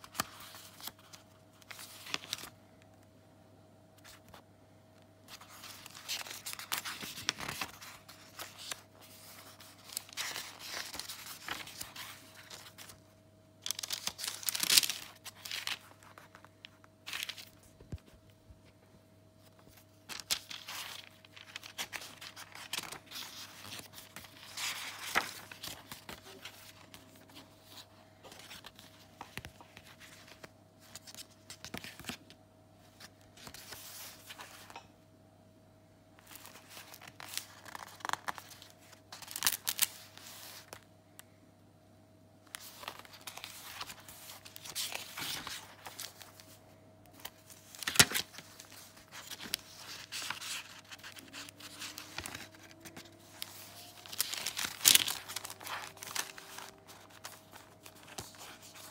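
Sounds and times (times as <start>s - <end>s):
paper pages rustling and crinkling: 0.0s - 2.6s, 5.3s - 13.0s, 13.6s - 18.3s, 19.4s - 32.3s, 32.9s - 34.8s, 36.2s - 40.9s, 42.5s - 58.9s.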